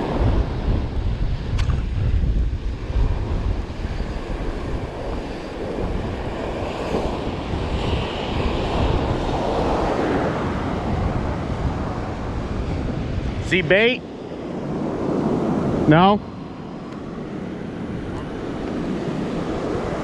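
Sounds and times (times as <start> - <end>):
wind buffeting microphone: 0.0 - 20.0
ocean surf breaking: 2.8 - 20.0.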